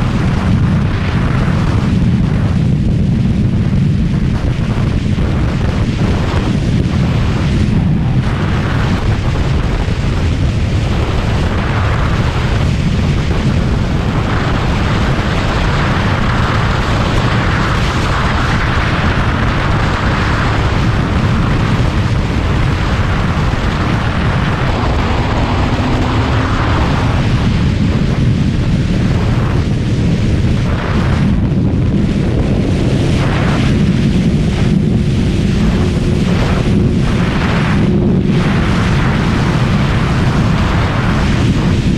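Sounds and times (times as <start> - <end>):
motorcycle engine running: 0.0 - 41.9
wind buffeting microphone: 0.0 - 41.9.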